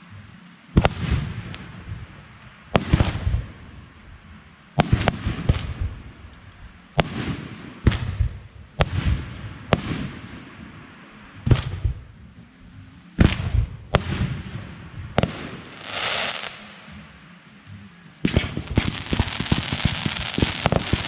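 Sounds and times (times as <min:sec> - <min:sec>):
crackling rumbling tail: 0:00.0 - 0:21.0
fireworks bursting with bangs: 0:00.7 - 0:03.9, 0:04.8 - 0:06.3, 0:06.9 - 0:12.2, 0:13.2 - 0:17.3, 0:18.1 - 0:21.0.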